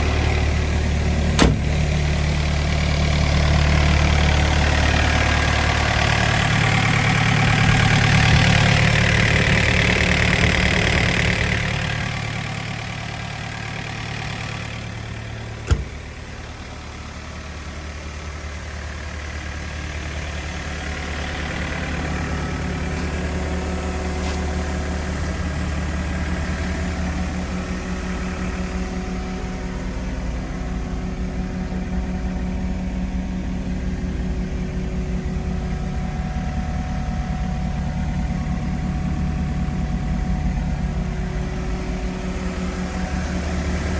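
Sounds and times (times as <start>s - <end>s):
excavator diesel engine idling: 0.0s - 43.9s.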